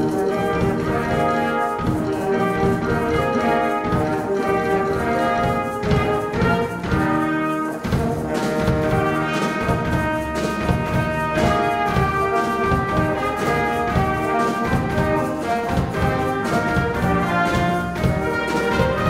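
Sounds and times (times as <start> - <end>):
clarinet: 0.0 - 19.0
drum kit: 0.0 - 19.0
keyboards: 0.0 - 19.0
trumpets playing held notes: 0.0 - 19.0
violin: 0.0 - 19.0.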